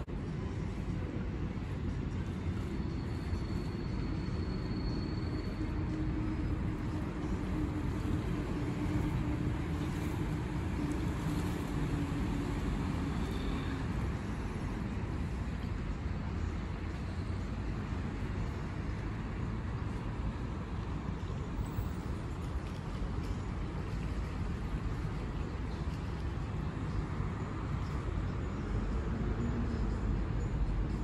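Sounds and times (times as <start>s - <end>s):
city traffic: 0.0s - 31.0s
wind rumbling on microphone: 0.0s - 31.0s.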